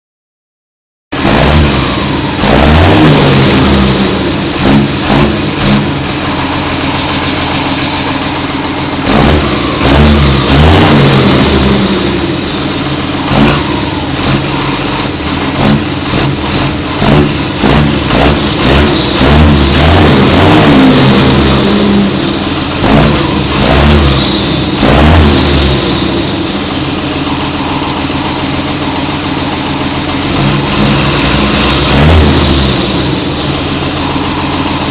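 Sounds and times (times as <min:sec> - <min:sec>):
high engine whistle: 0:01.1 - 0:34.9
tractor diesel engine revving: 0:01.1 - 0:34.9.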